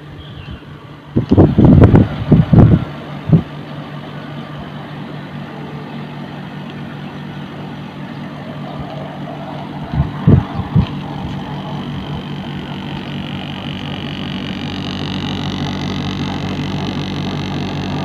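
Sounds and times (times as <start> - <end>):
air conditioner humming: 0.0 - 18.0.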